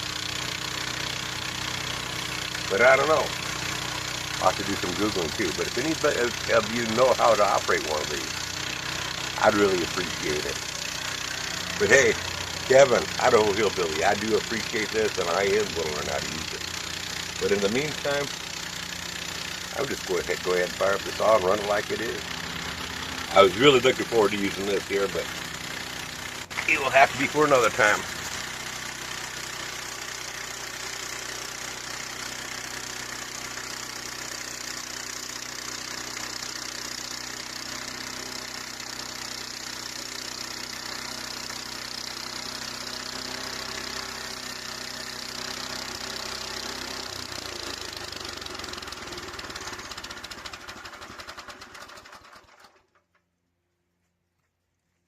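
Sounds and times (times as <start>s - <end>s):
gasoline engine running: 0.0s - 53.1s.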